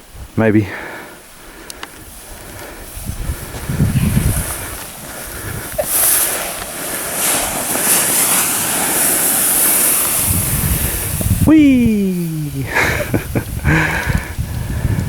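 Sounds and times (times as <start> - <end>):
sled hissing on snow: 0.6 - 15.0
wind buffeting microphone: 1.2 - 15.0.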